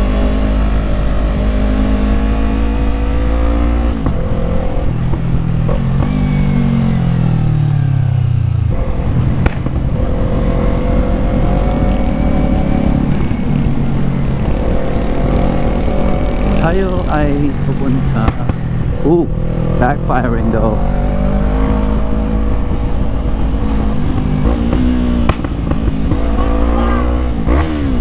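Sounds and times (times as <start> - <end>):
motorcycle engine: 0.0 - 28.0.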